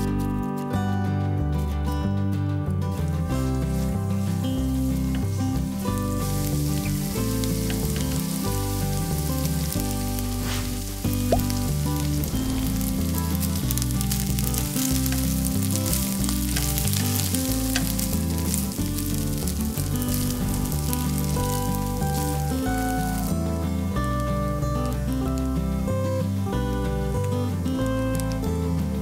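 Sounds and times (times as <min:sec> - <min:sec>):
background music: 0:00.0 - 0:29.0
meat sizzling in a frying pan: 0:03.4 - 0:28.8.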